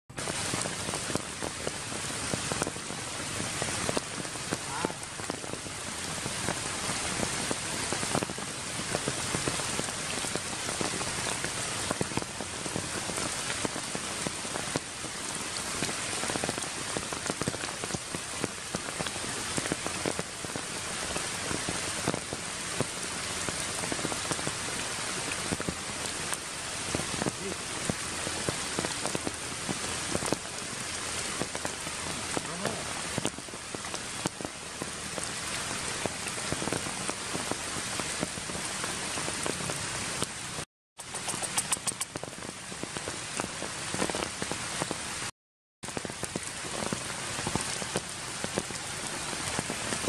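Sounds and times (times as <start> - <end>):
sharp hits of raindrops: 0.1 - 50.0
steady rain falling: 0.1 - 50.0.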